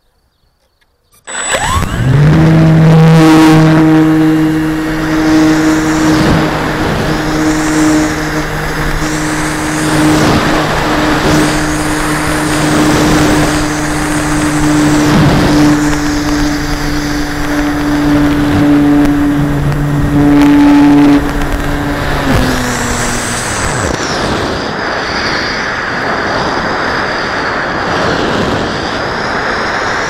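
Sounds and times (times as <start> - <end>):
model airplane motor drone: 1.1 - 30.0
wind rushing over microphone: 1.4 - 30.0.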